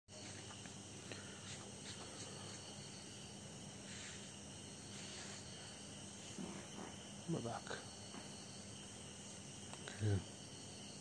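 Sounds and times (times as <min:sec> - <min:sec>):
crickets chirring: 0:00.1 - 0:11.0.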